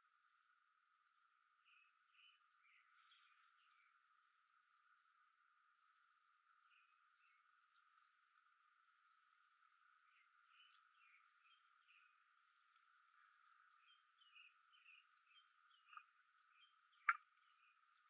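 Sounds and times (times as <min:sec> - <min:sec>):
steady faint hiss: 0:00.0 - 0:18.0
small birds chirping: 0:00.2 - 0:18.0.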